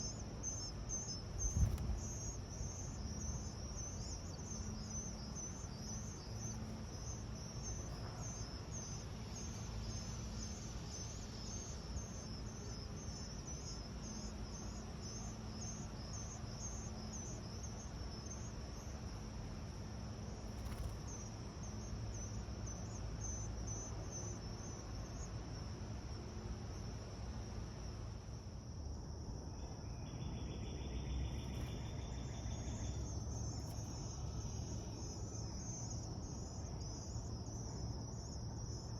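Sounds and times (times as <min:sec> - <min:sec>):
insects trilling: 0:00.0 - 0:38.9
low steady buzz: 0:00.0 - 0:38.9.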